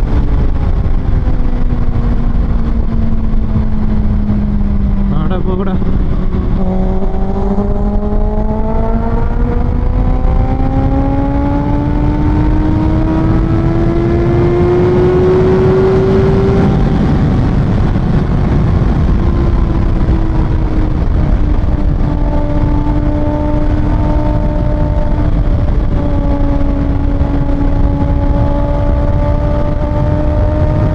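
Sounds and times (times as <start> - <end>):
motorcycle engine revving: 0.0 - 30.9
steady rushing noise: 0.0 - 30.9.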